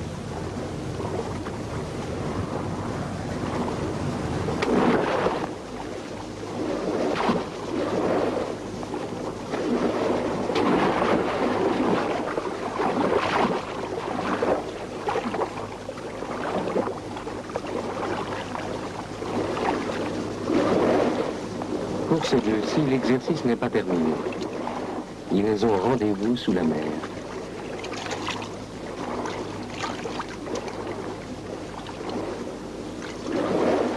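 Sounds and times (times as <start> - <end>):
sea surging: 0.0 - 33.9.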